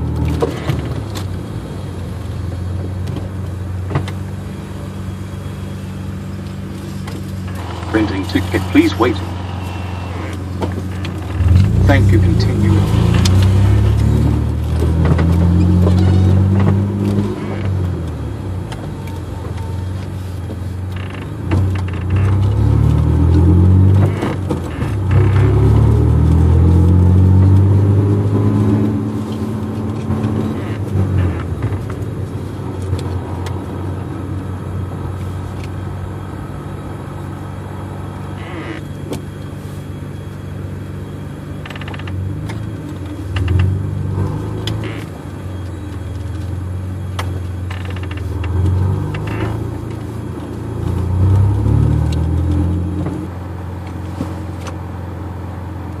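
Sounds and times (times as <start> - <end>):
car engine humming inside cabin: 0.0 - 56.0.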